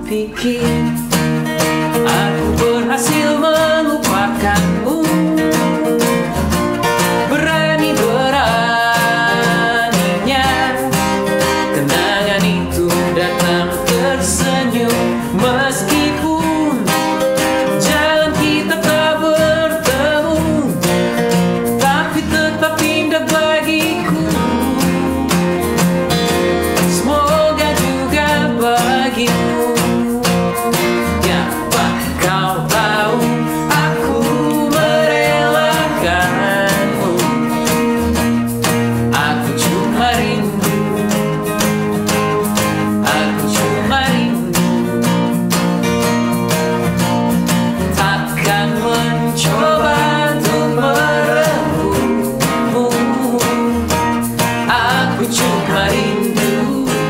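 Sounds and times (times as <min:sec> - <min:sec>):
man singing pop ballad: 0:00.0 - 0:01.2, 0:01.9 - 0:06.3, 0:07.2 - 0:45.3, 0:47.8 - 0:57.0
acoustic guitars strumming: 0:00.0 - 0:57.0.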